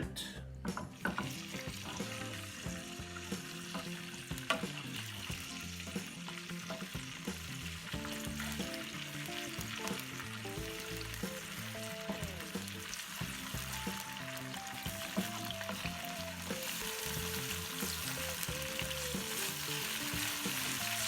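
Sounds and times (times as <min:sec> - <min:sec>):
garlic sizzling in butter: 0:00.8 - 0:21.0.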